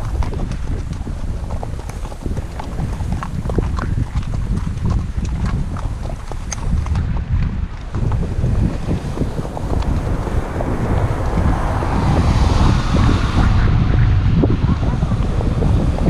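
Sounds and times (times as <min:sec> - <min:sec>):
hooves clip-clopping on gravel: 0:00.0 - 0:13.3, 0:14.5 - 0:16.0
wind rumble on microphone: 0:00.0 - 0:16.0.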